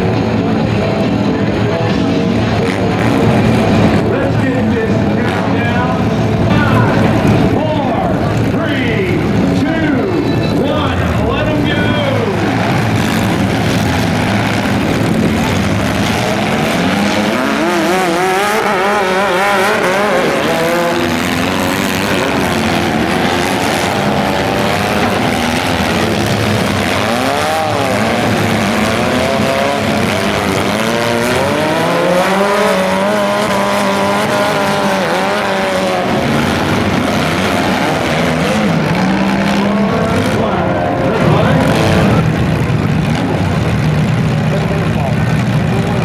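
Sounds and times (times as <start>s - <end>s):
car engines revving: 0.0s - 46.0s
low engine drone: 0.0s - 46.0s.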